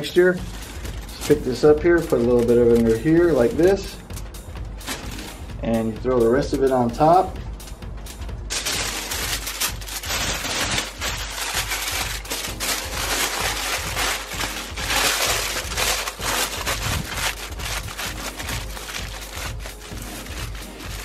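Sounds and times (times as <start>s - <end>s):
aluminum foil crinkling: 0.0s - 3.8s, 4.8s - 5.4s, 8.5s - 21.0s.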